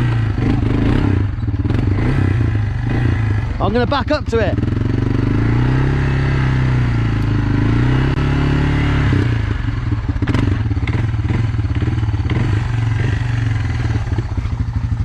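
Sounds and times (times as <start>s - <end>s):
quad bike engine revving and idling: 0.0s - 15.0s.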